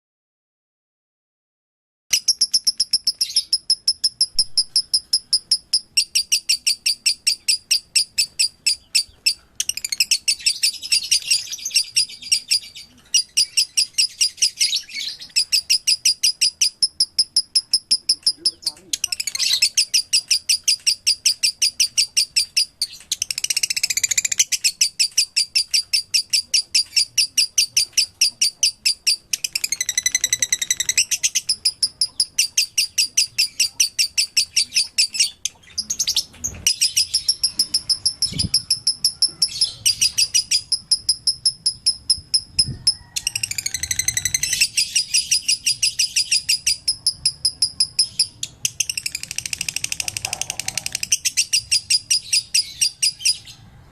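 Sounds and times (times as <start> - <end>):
lovebird chirping: 2.1 - 53.6.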